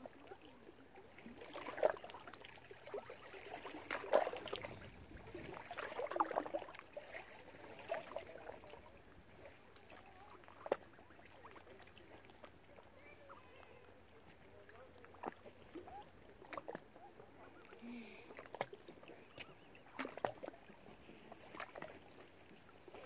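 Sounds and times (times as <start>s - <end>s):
small splashes: 0.0s - 23.0s
water lapping and trickling: 0.0s - 23.0s.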